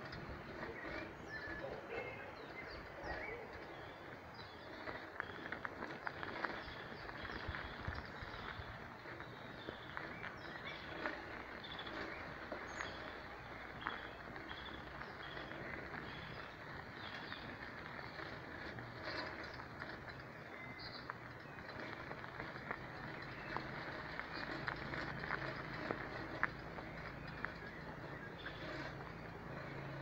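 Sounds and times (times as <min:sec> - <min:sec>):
footsteps on dry leafy path: 0:00.0 - 0:30.0
small birds chirping: 0:00.0 - 0:30.0
steady outdoor hiss: 0:00.0 - 0:30.0.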